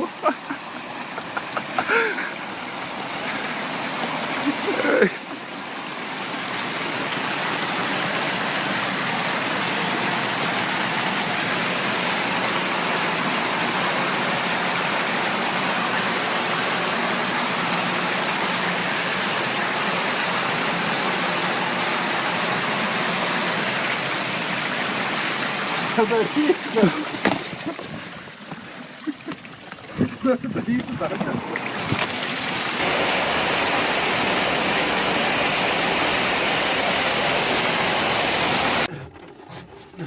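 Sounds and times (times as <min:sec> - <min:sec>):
water gushing from broken pipe: 0:00.0 - 0:40.0.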